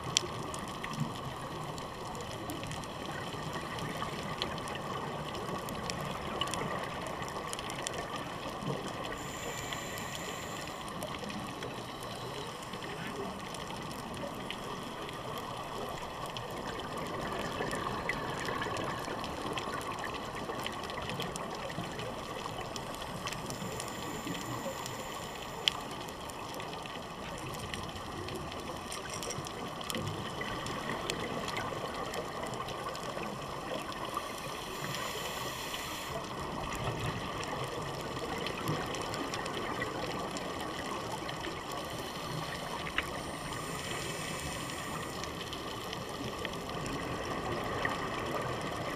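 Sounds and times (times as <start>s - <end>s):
faint ticks: 0.0s - 48.9s.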